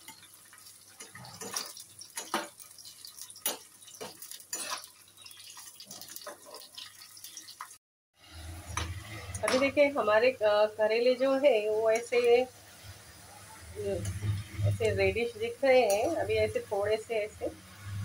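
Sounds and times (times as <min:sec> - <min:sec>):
food sizzling and crackling in oil: 0:00.0 - 0:18.0.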